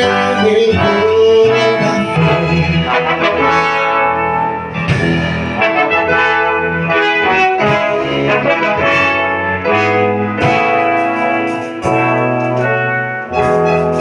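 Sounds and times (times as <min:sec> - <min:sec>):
band with brass section: 0:00.0 - 0:14.0.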